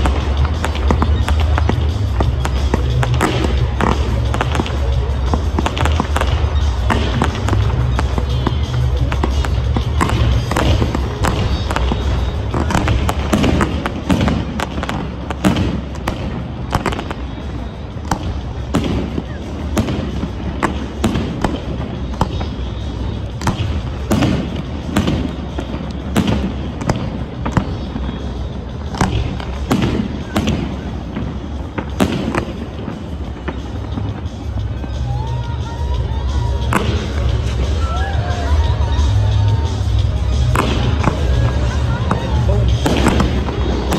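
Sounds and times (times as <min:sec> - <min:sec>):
fireworks bangs and cracks: 0:00.0 - 0:43.9.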